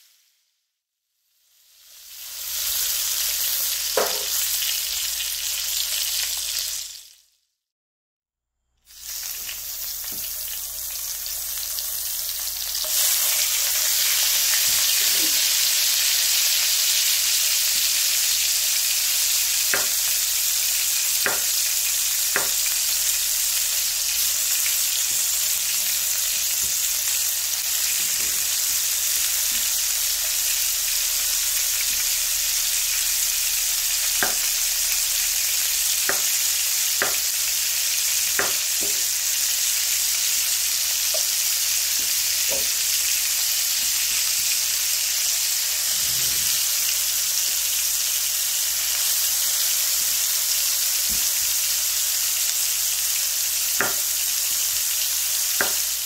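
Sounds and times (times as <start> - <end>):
tomatoes sizzling in a skillet: 0.0 - 0.5, 1.2 - 7.4, 8.9 - 56.0.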